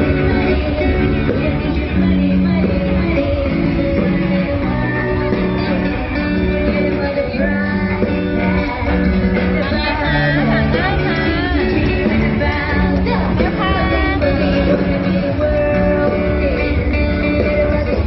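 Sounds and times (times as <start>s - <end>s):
song with singing voice: 0.0s - 18.0s.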